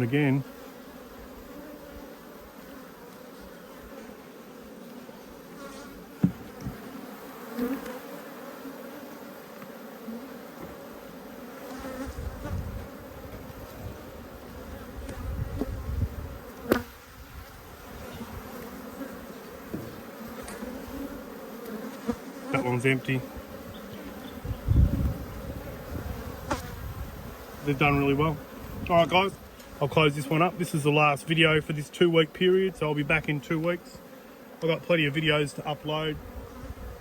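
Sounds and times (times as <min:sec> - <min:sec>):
honeybees buzzing: 0:00.0 - 0:37.0.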